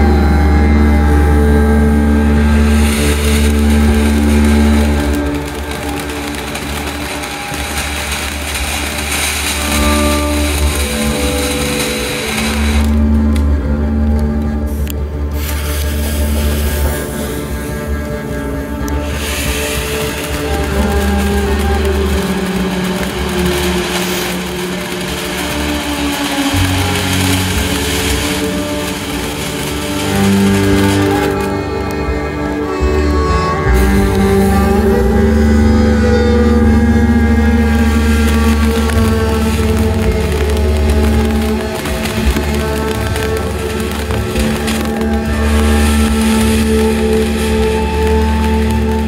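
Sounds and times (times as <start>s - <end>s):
background music with held notes: 0.0s - 49.0s
firework fountain hissing: 0.6s - 49.0s.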